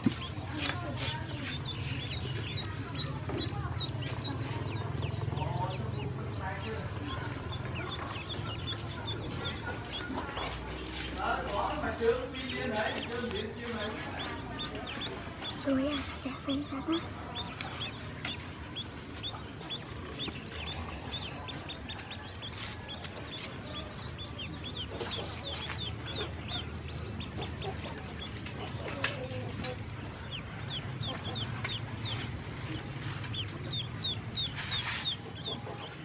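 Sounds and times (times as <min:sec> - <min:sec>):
ducklings peeping: 0:00.0 - 0:36.0.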